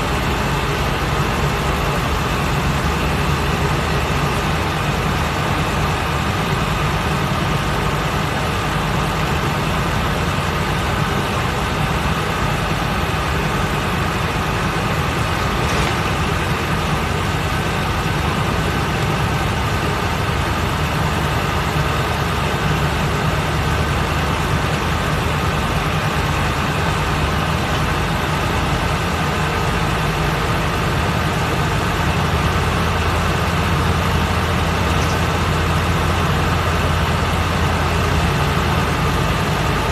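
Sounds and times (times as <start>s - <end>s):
bus engine drone: 0.0s - 39.9s
road and cabin noise: 0.0s - 39.9s.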